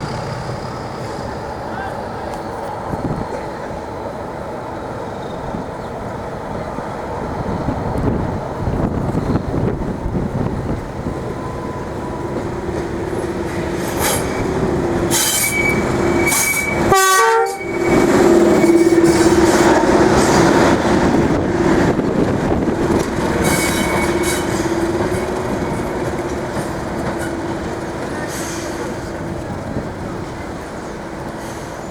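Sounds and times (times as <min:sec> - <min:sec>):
diesel locomotive pulling away: 0:00.0 - 0:31.9.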